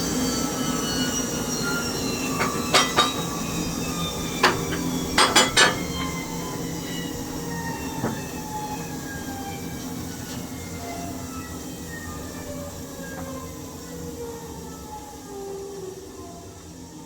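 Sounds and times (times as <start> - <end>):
machinery humming and whining: 0.0 - 17.0.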